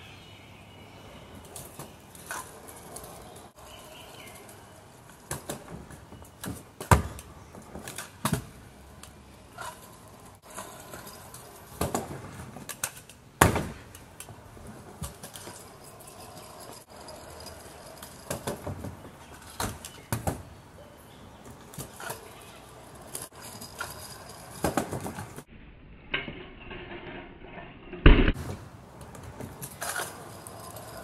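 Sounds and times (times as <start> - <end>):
scooter clattering on concrete: 1.4 - 20.5, 21.1 - 25.5, 28.3 - 31.0.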